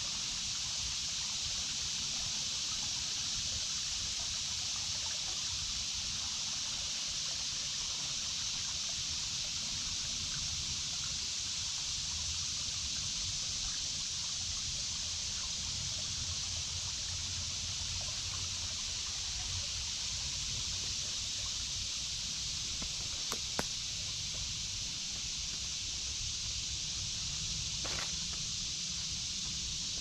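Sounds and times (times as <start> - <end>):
cicadas droning: 0.0 - 30.0
trickling creek: 0.0 - 30.0.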